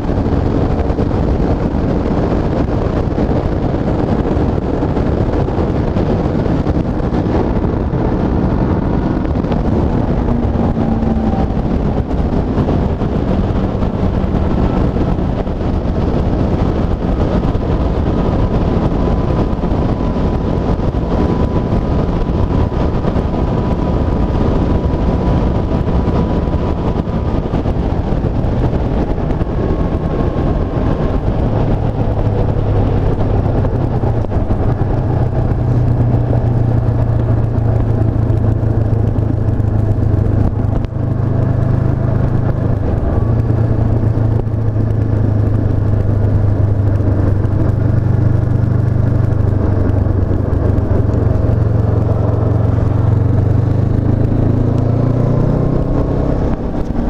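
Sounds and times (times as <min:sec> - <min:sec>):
motorcycle engine at speed: 0:00.0 - 0:57.0
wind noise on microphone: 0:00.0 - 0:57.0.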